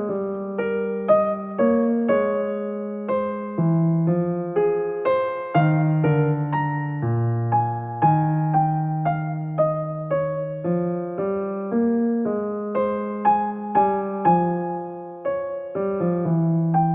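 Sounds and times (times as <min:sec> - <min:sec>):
gentle electric piano melody: 0:00.0 - 0:16.9.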